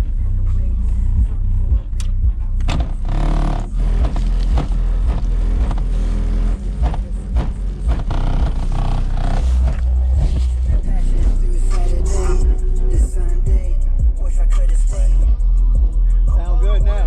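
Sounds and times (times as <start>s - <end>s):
bass-heavy music through subwoofer: 0.0s - 17.0s.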